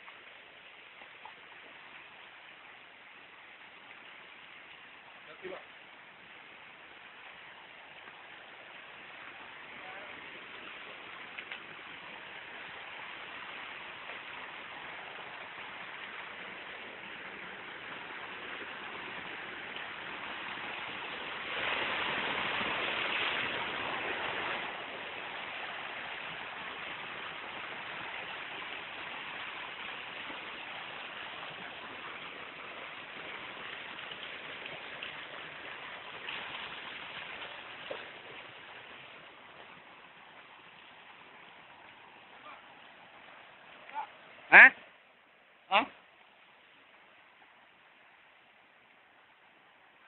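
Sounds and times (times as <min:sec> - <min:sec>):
water rushing over rocks: 0:00.0 - 0:50.0.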